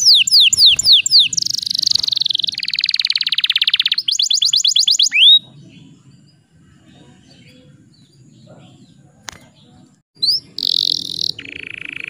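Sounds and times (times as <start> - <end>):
canary singing trills: 0.0 - 12.0.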